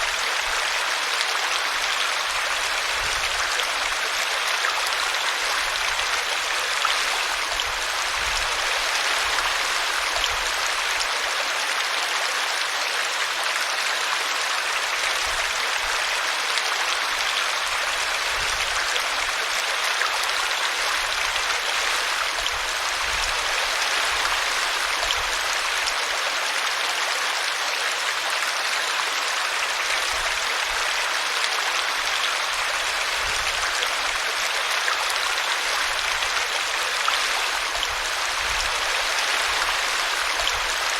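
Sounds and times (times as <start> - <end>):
brook babbling and splashing: 0.0 - 40.9.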